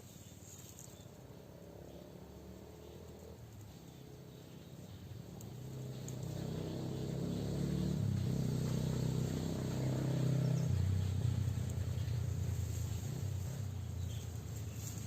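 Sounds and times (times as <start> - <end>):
low engine running: 0.7 - 15.0.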